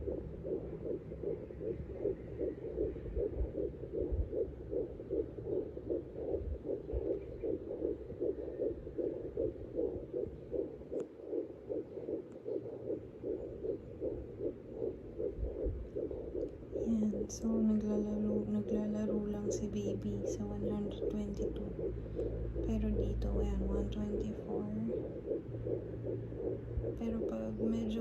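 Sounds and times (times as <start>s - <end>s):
fetal heartbeat whooshing pulse: 0.0s - 28.0s.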